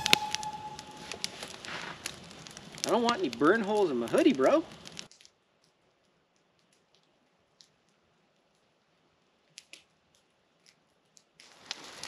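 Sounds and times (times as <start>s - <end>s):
campfire pops: 0.1s - 8.7s, 9.4s - 12.0s.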